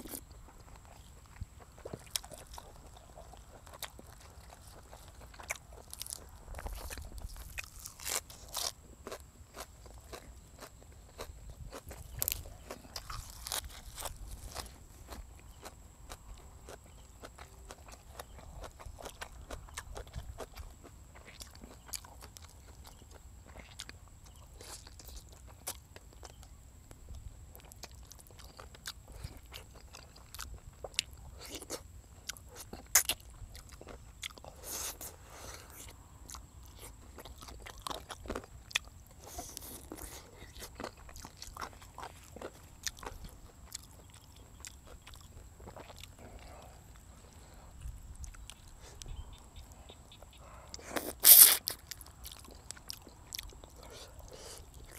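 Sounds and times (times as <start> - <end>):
man chewing and crunching: 0.0 - 54.9.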